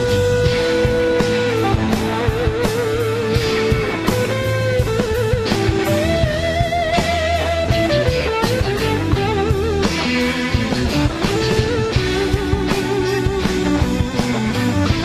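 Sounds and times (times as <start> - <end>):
bass and drums: 0.0 - 15.0
electric guitar solo with vibrato: 0.0 - 15.0.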